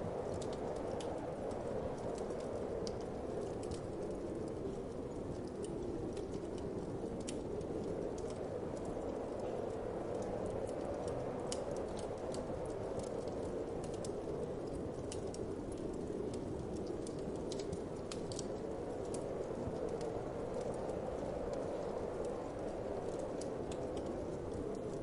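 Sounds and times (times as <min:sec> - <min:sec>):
winter wind whooshing: 0:00.0 - 0:25.0
wood fire crackling: 0:00.0 - 0:25.0.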